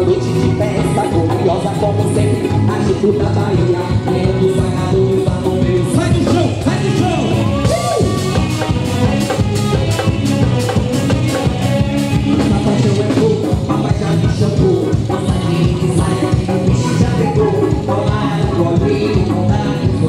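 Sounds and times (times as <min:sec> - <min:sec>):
band instruments playing: 0:00.0 - 0:20.0
fast drum beat: 0:00.0 - 0:20.0
person singing melody: 0:00.0 - 0:20.0.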